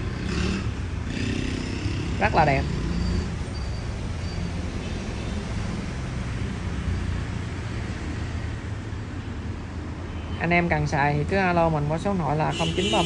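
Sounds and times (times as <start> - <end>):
background noise: 0.0 - 13.0.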